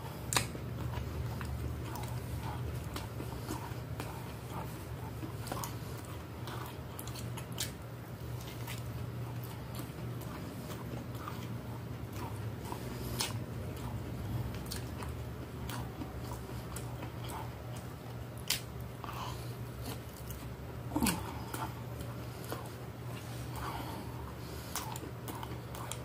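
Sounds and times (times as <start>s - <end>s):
person chewing with mouth smacks: 0.0s - 26.0s
steady low hum: 0.0s - 26.0s.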